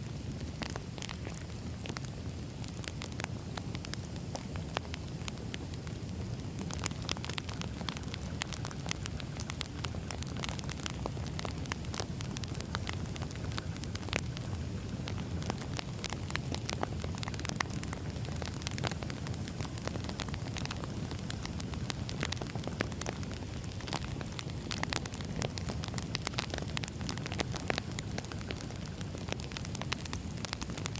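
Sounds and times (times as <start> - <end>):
low rumble of flames: 0.0 - 30.9
wood fire crackling: 0.0 - 30.9.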